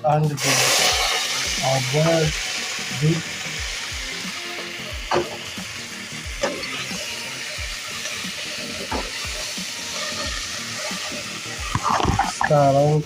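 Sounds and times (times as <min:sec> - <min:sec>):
onions sizzling in hot oil: 0:00.3 - 0:13.0.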